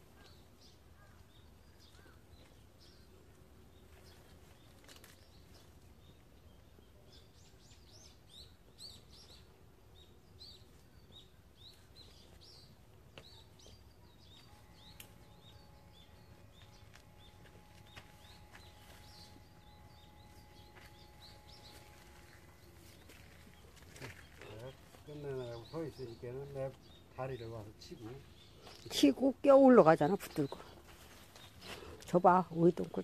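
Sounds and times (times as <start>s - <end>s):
low steady background hum: 0.0s - 33.0s
small birds chirping: 0.0s - 33.0s.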